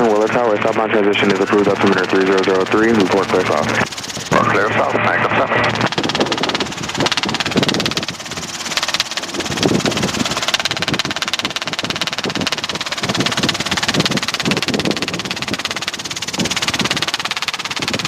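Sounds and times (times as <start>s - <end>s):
helicopter engine and rotor chop: 0.0s - 18.0s.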